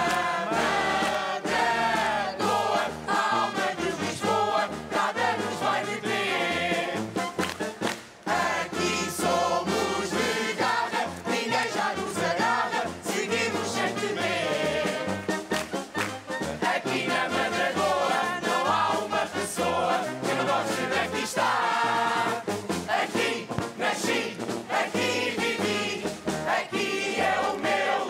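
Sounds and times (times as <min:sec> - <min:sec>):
large choir singing: 0:00.0 - 0:07.2, 0:08.2 - 0:15.5, 0:16.6 - 0:28.0
band accompaniment: 0:00.0 - 0:28.0.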